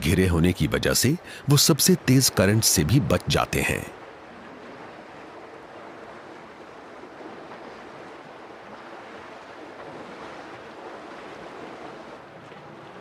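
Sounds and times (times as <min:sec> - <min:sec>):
river water rushing and splashing: 0:00.0 - 0:13.0.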